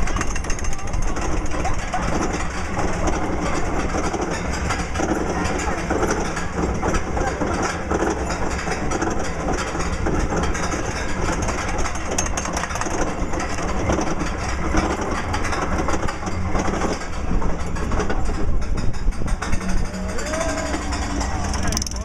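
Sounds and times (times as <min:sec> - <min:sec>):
roller coaster rumble and rush: 0:00.0 - 0:22.0.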